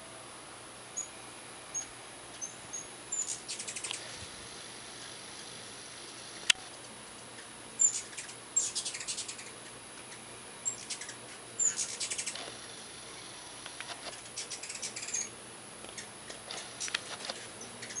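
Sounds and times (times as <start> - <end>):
hummingbirds chittering: 0.9 - 18.0.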